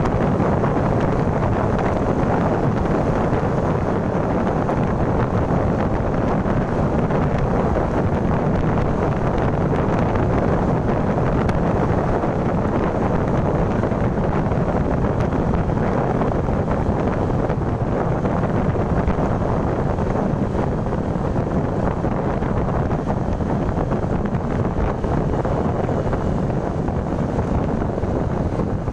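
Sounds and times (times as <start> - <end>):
moving vehicle rumble: 0.0 - 28.9
wind buffeting microphone: 0.0 - 28.9.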